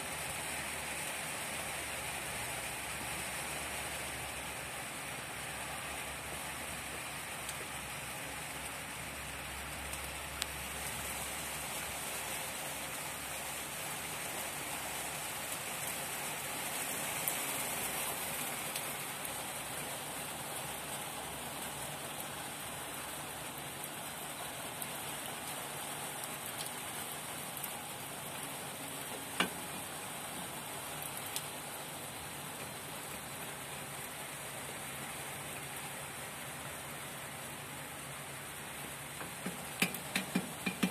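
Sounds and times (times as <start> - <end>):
rain on steel rebar: 0.0 - 40.9.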